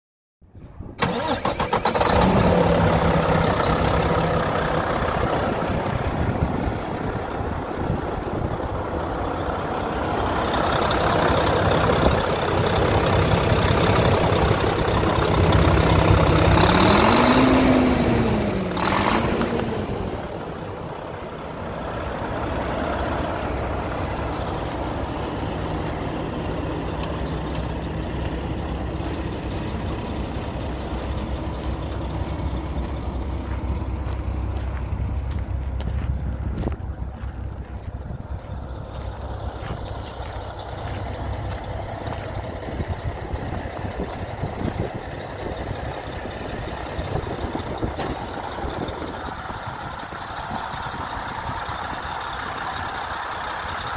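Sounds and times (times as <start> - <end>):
diesel engine starting and idling: 0.6 - 53.9.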